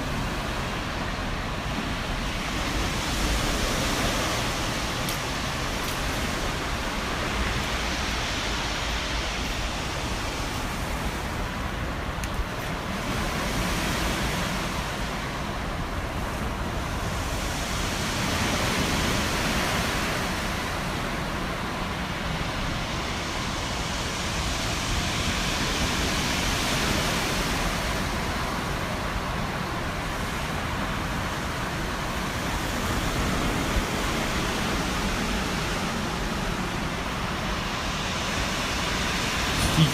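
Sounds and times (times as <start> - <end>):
waves breaking on shore: 0.0 - 39.9
wind rumbling on microphone: 0.0 - 39.9.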